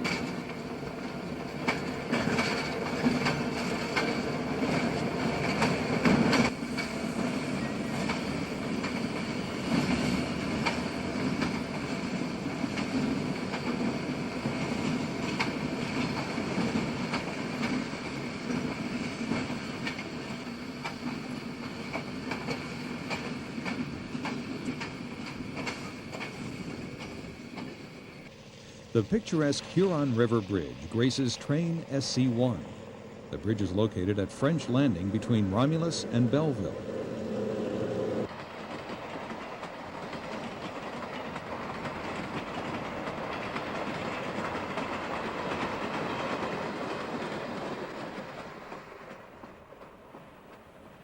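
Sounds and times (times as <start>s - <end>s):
wheels clicking over rail joints: 0.0s - 31.5s, 38.2s - 51.0s
diesel locomotive rumbling: 0.0s - 51.0s.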